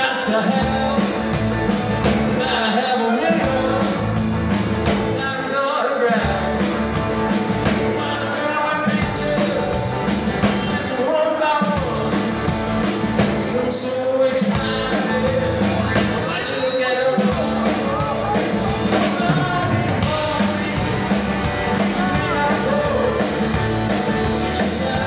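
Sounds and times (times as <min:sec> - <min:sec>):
drums: 0:00.0 - 0:25.0
electric guitar: 0:00.0 - 0:25.0.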